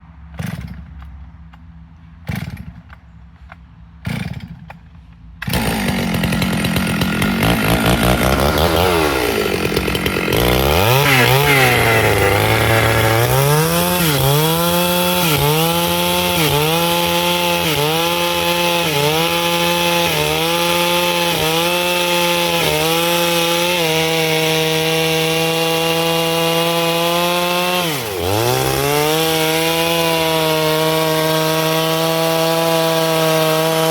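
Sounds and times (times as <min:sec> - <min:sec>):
chainsaw cutting wood: 0:00.3 - 0:33.9.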